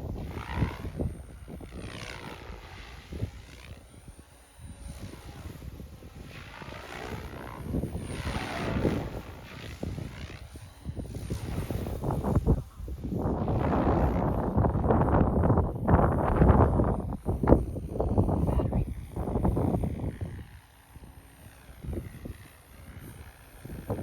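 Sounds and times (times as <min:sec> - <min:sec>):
helicopter rotor noise: 0:00.0 - 0:24.0
wind buffeting microphone: 0:00.0 - 0:24.0.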